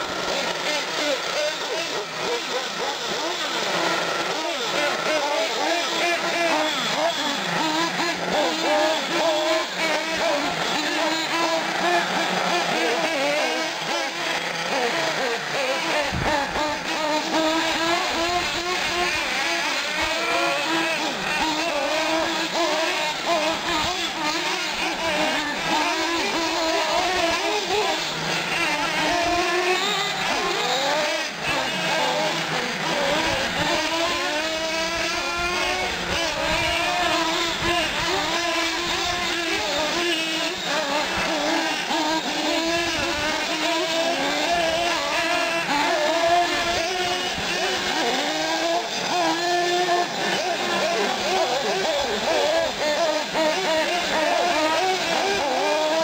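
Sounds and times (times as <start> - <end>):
rc car engines buzzing and revving: 0.0 - 56.0.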